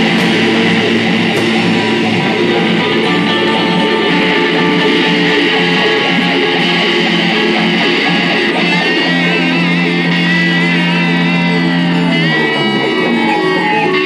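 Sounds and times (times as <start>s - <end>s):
held wavering high note: 0.0s - 14.0s
live rock band playing: 0.0s - 14.0s.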